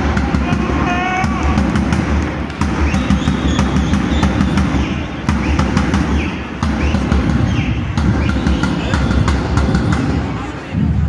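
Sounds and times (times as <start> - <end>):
bass drum thuds echoing: 0.0 - 11.0.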